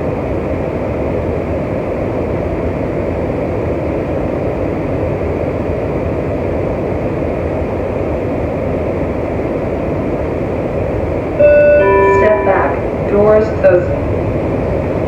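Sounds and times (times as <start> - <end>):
train car rumble and hiss: 0.0 - 15.0.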